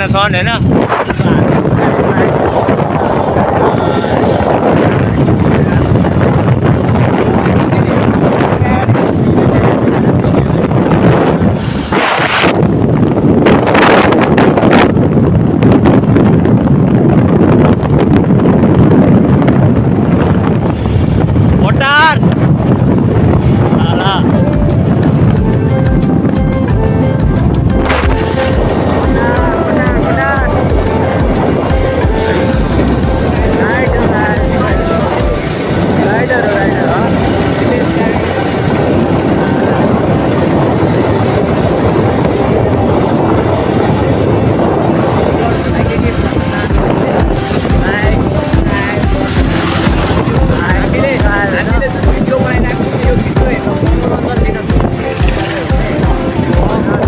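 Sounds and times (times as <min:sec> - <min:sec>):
motorcycle engine rumble: 0:00.0 - 0:57.0
road noise: 0:00.0 - 0:57.0
wind buffeting microphone: 0:00.0 - 0:57.0.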